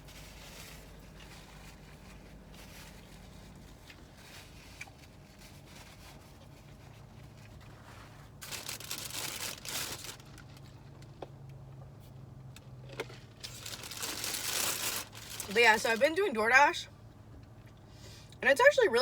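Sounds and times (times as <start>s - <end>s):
crinkling and rustling: 0.0s - 16.2s
faint low hum: 0.0s - 19.0s.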